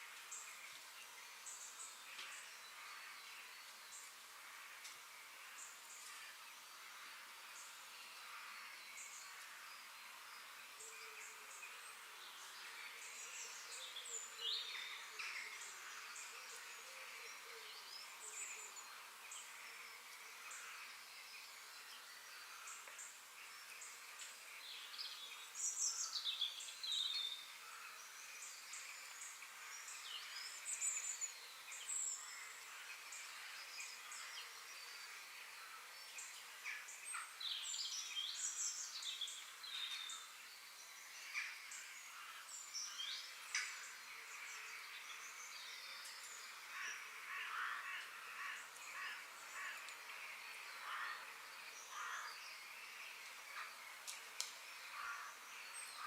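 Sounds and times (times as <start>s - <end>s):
distant birds and insects hiss: 0.0s - 56.0s
small birds chirping: 0.0s - 56.0s.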